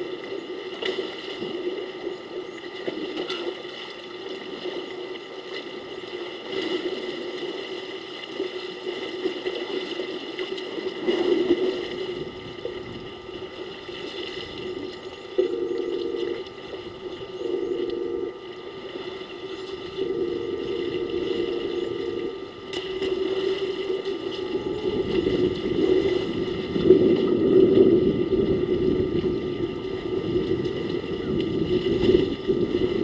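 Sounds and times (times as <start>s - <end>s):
steady background hum: 0.0s - 33.0s
water sloshing and splashing: 0.0s - 33.0s.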